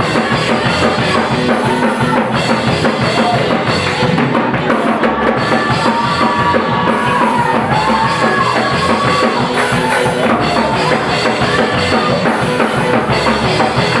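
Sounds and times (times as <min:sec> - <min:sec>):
drum kit beat: 0:00.0 - 0:14.0
live band music: 0:00.0 - 0:14.0
sliding melody line: 0:00.0 - 0:14.0.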